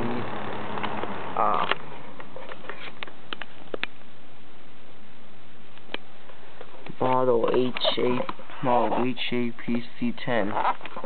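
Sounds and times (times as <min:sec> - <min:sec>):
box fan motor hum: 0:00.0 - 0:11.0
steady background hiss: 0:00.0 - 0:11.0.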